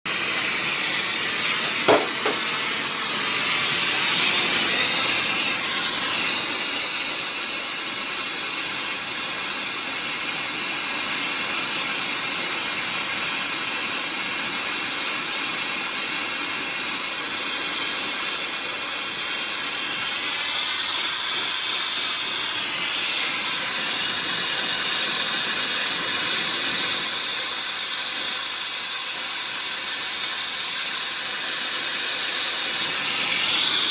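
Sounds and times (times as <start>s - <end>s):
brazing torch hissing: 0.1s - 10.6s, 15.5s - 33.9s.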